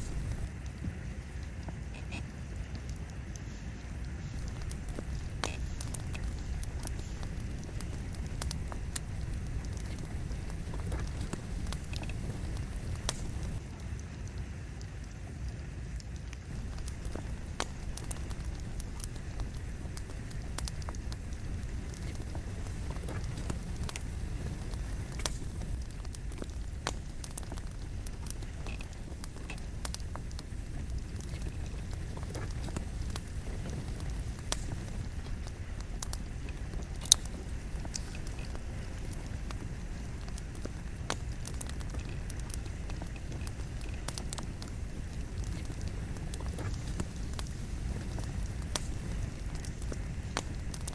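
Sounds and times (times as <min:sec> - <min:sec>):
burning logs crackling and popping: 0:00.0 - 0:50.9
wood fire flames rushing: 0:00.0 - 0:50.9.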